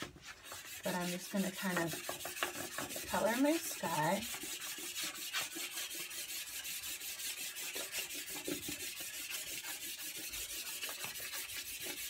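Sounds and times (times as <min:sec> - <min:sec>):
chalk pastel scrubbing on paper: 0:00.0 - 0:12.0.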